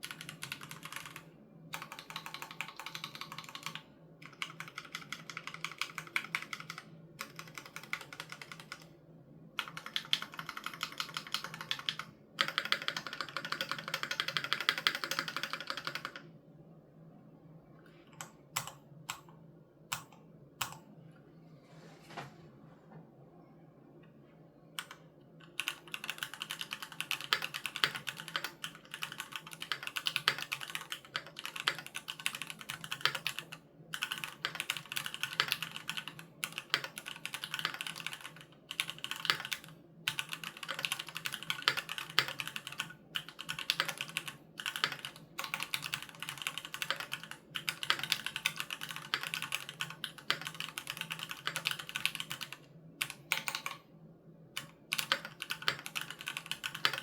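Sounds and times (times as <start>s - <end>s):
fast typing on mechanical keyboard: 0.0s - 8.9s, 9.6s - 16.3s, 24.8s - 53.8s, 54.6s - 57.0s.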